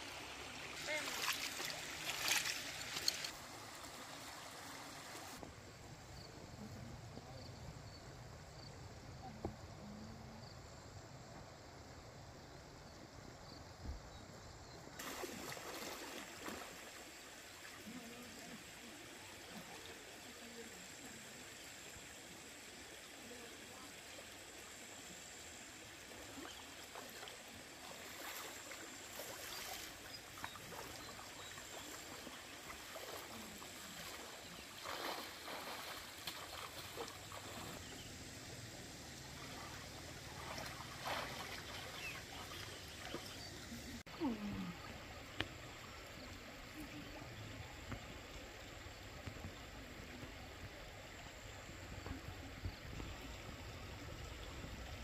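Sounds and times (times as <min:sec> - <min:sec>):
water splashes: 0:00.0 - 0:05.4, 0:15.0 - 0:55.0
stream water trickling: 0:00.0 - 0:05.5, 0:14.9 - 0:55.0.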